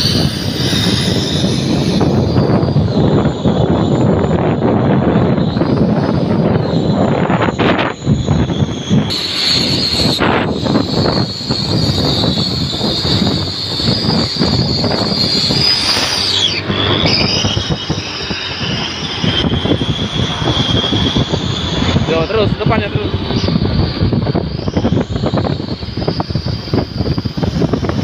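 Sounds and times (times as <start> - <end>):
engine revving: 0.0 - 28.0
exhaust whistle hissing: 0.0 - 28.0.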